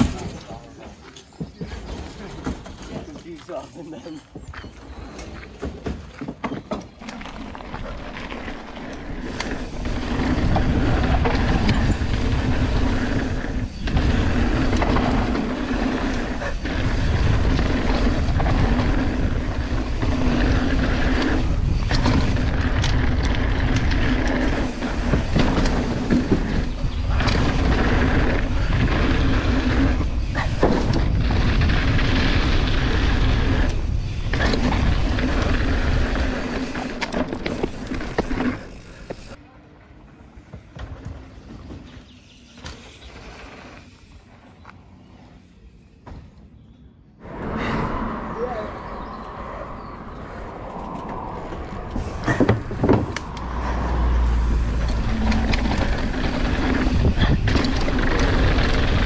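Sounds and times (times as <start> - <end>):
wind and tyre noise: 0.0 - 59.0.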